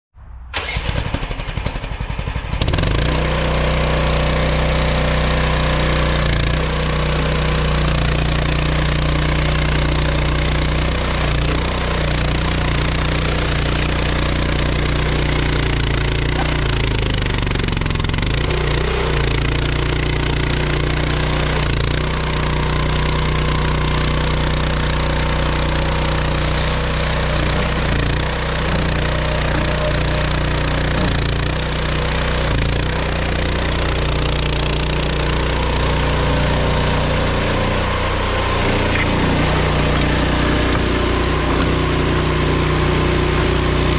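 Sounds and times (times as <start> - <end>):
engine starting and running: 0.2 - 43.9.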